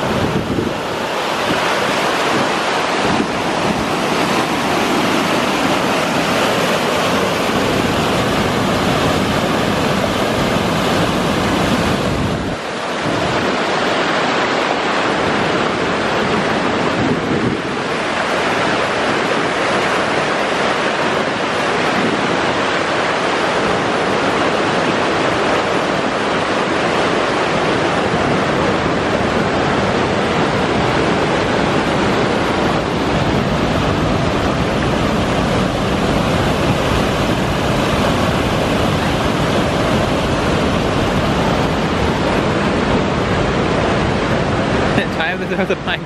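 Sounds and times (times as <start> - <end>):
whitewater rapids rushing over rocks: 0.0 - 46.0.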